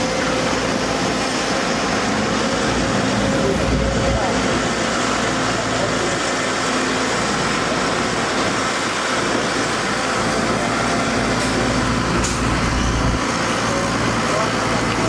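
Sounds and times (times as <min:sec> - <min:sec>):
diesel engines running: 0:00.0 - 0:15.0
excavator hydraulics: 0:00.0 - 0:15.0.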